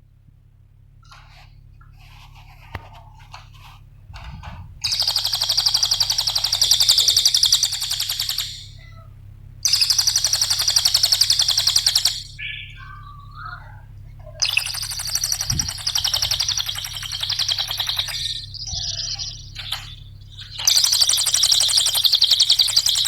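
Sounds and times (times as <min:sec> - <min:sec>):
soft bird chirps: 0:01.0 - 0:23.0
songbird rapid trills: 0:01.1 - 0:09.0, 0:09.6 - 0:23.0.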